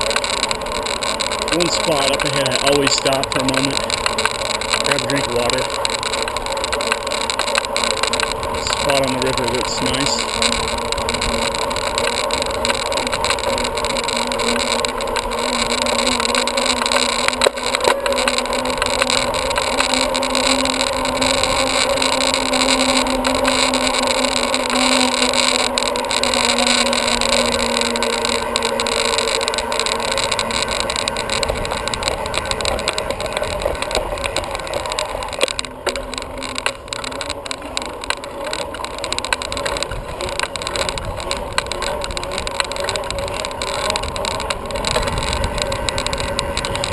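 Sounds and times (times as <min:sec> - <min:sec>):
bicycle tyre hum: 0:00.0 - 0:46.9.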